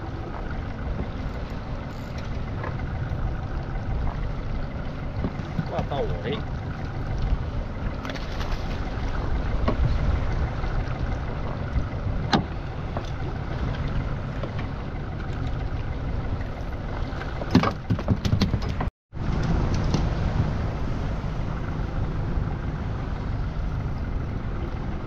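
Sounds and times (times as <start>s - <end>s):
boat engine rumble: 0.0s - 25.0s.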